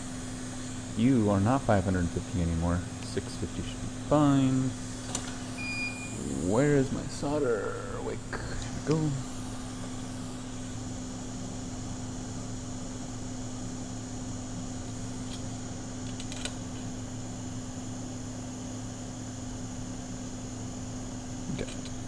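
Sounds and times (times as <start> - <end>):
fan-driven bench tool whirring: 0.0 - 22.0
low electrical drone: 0.0 - 22.0.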